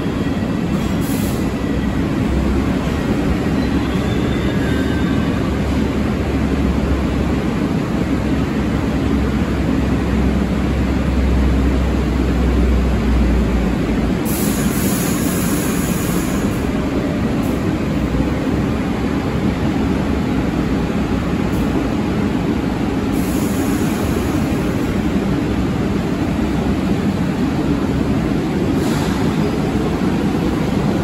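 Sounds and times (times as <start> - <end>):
subway train wheels rumbling: 0.0 - 31.0.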